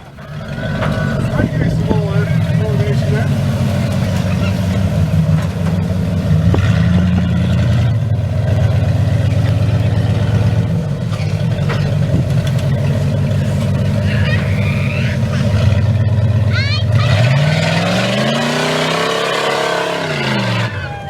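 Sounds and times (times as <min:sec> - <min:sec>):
off-road vehicle engine at low revs: 0:00.0 - 0:21.0.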